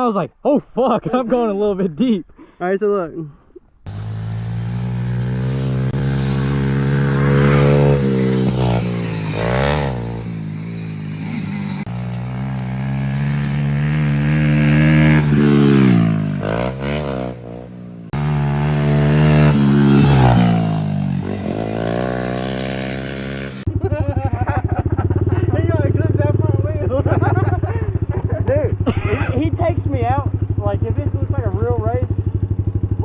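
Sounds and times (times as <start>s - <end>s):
pit bike engine revving: 3.9s - 23.8s, 24.4s - 31.6s.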